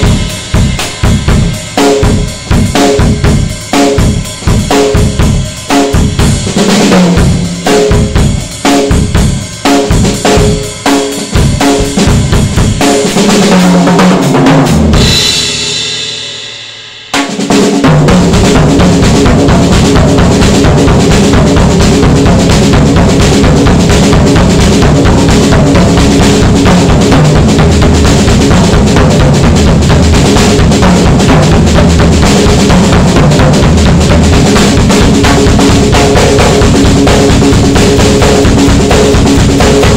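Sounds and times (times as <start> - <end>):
drum kit beat: 0.0 - 39.9
drum strokes: 0.0 - 39.9.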